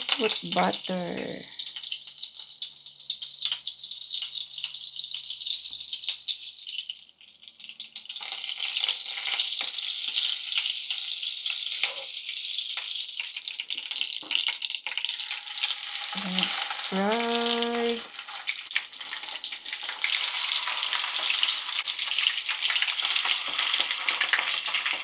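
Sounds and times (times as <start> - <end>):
oil sizzling in a frying pan: 0.0 - 25.0.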